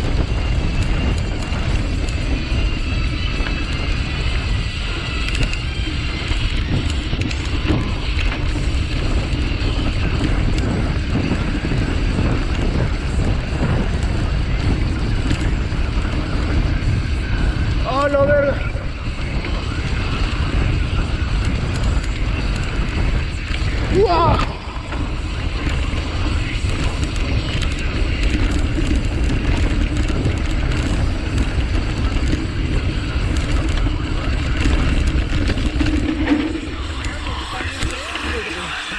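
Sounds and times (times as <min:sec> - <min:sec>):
bike clicks and rattles: 0:00.0 - 0:38.9
tyres rumbling on dirt: 0:00.0 - 0:38.9
wind rushing over microphone: 0:00.0 - 0:38.9.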